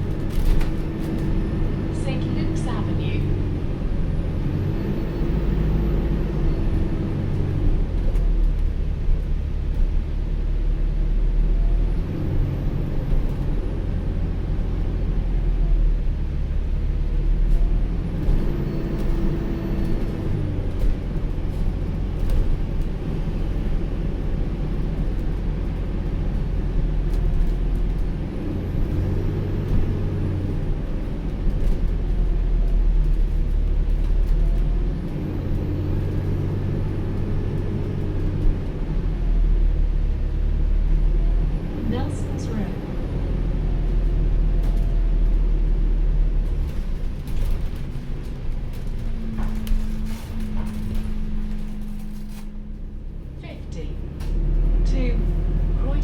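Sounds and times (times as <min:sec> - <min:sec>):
bus rumble with rising whine: 0:00.0 - 0:56.0.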